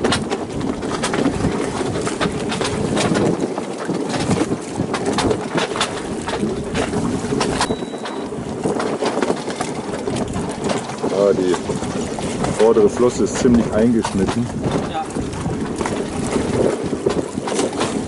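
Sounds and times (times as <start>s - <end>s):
water sloshing against hull: 0.0s - 18.0s
wind on microphone: 0.0s - 18.0s.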